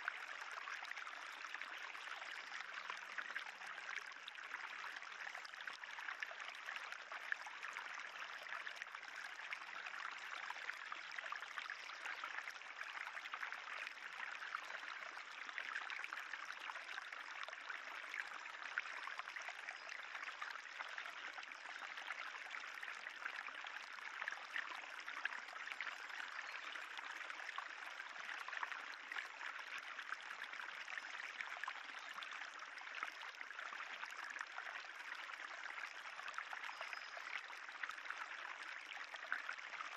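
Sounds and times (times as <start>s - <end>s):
water trickling in channel: 0.0s - 39.9s.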